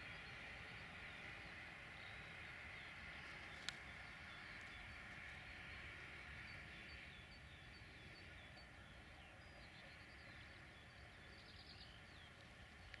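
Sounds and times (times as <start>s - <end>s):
small bird singing: 0.0s - 13.0s.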